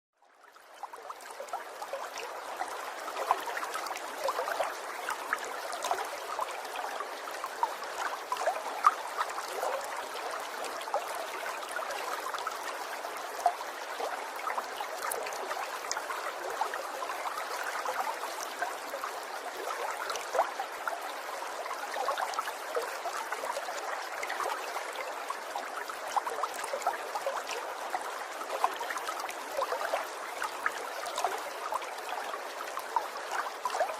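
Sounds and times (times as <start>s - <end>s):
water trickling: 0.2s - 33.9s.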